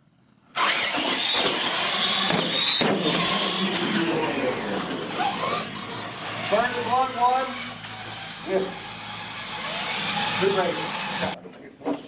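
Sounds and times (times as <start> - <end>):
electric motors and gears whining: 0.5 - 11.4.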